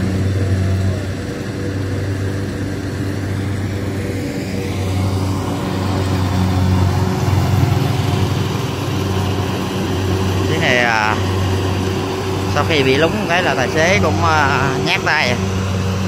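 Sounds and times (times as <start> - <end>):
harvester engine humming: 0.0 - 16.0.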